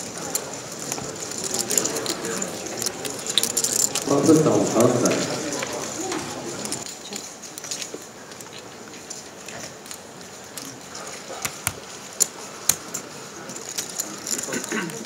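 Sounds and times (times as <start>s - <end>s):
poker chips clacking: 0.0s - 15.0s.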